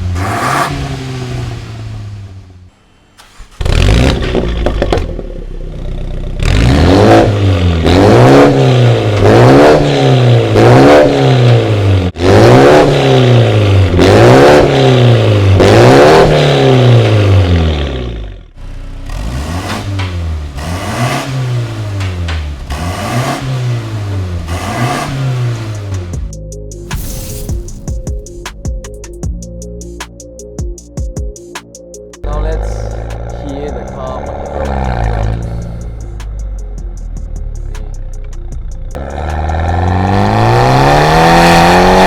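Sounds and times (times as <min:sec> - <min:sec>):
car engine revving: 0:00.0 - 0:30.0, 0:32.3 - 0:42.0.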